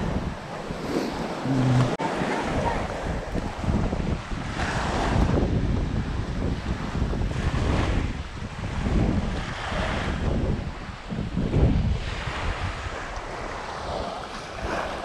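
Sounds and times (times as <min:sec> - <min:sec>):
small waves washing onto beach: 0:00.0 - 0:15.0
wind rumbling on microphone: 0:00.0 - 0:15.0.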